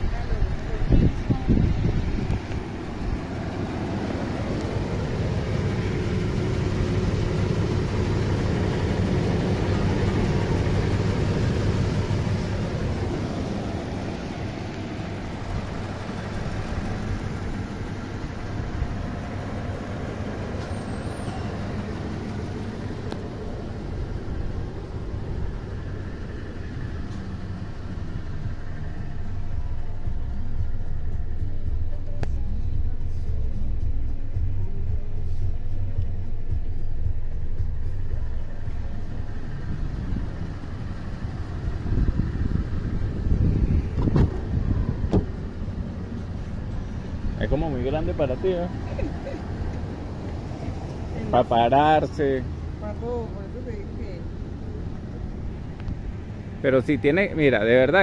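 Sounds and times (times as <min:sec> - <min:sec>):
pickup engine idling: 0:00.0 - 0:58.0.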